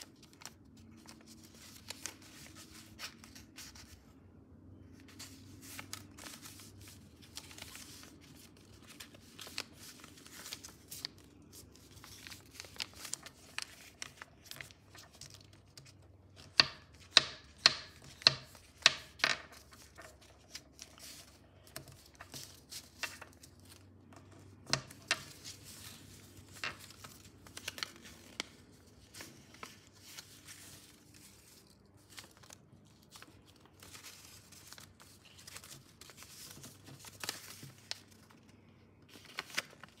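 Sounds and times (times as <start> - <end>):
paper rustling and crinkling: 0.0 - 40.0.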